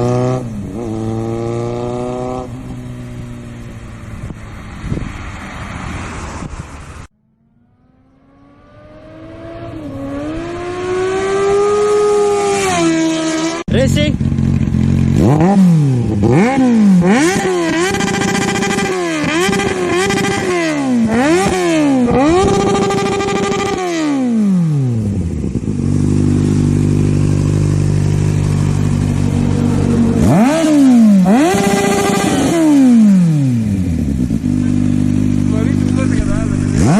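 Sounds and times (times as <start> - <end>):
motorcycle engine revving and idling: 0.0 - 5.2, 7.8 - 36.9.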